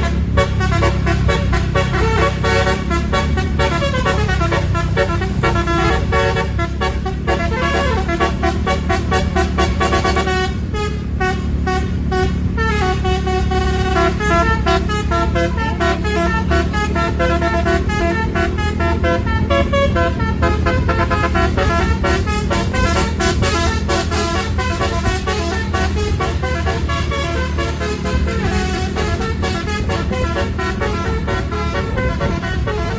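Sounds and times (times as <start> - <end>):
bus musical air horn tune: 0.0 - 32.9
low bus engine hum: 0.0 - 32.9.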